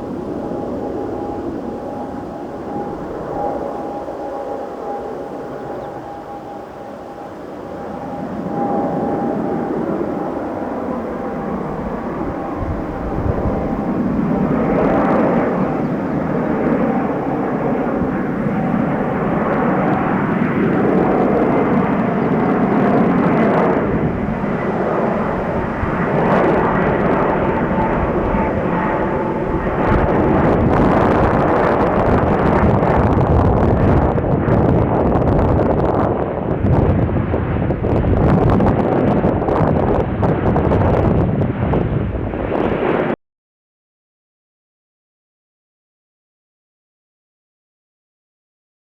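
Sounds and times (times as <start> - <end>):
jet airliner roar: 0.0 - 43.2.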